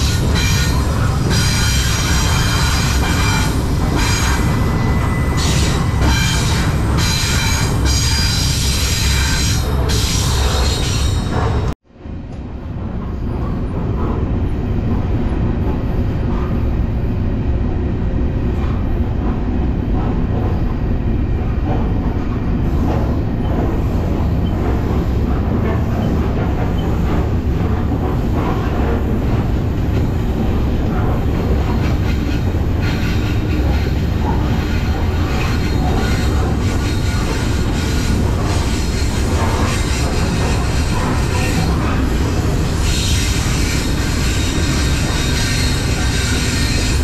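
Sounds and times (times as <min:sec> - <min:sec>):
freight train rumbling: 0:00.0 - 0:47.0.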